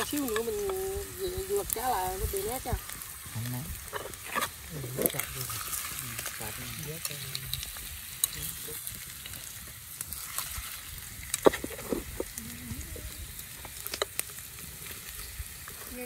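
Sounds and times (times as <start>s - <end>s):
fish sizzling in hot oil: 0.0s - 16.0s
oil popping: 0.0s - 16.0s.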